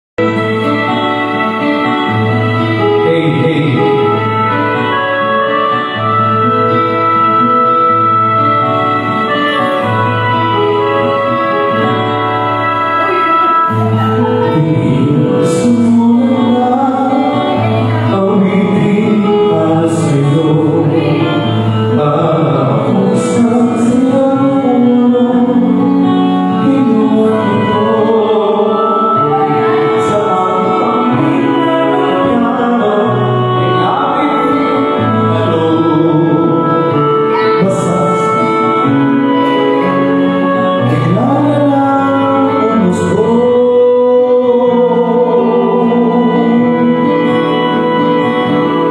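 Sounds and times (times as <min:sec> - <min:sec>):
slow ballad on electronic keyboard: 0:00.2 - 0:48.9.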